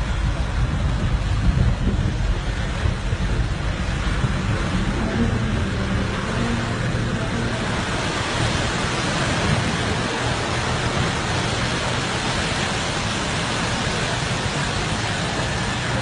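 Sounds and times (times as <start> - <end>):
engine and tyre rumble: 0.0 - 16.0
waterfall rushing: 0.0 - 16.0.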